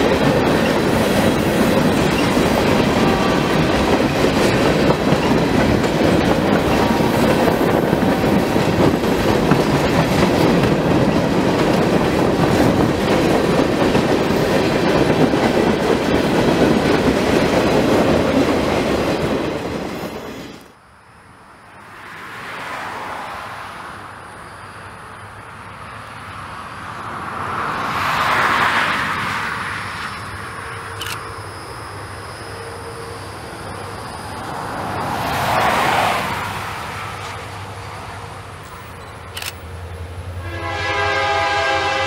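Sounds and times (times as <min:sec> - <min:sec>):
freight train wheels rumbling: 0:00.0 - 0:20.8, 0:24.3 - 0:42.0.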